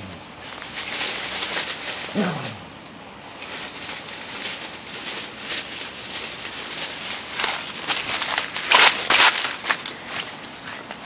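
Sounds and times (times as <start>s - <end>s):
dry leaves rustling and crackling: 0.0s - 10.6s.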